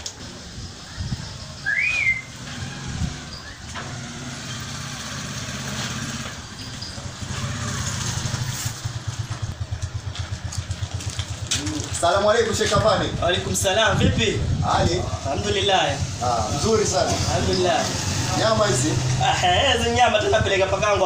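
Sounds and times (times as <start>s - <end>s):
engine running with low throb: 0.0s - 21.0s.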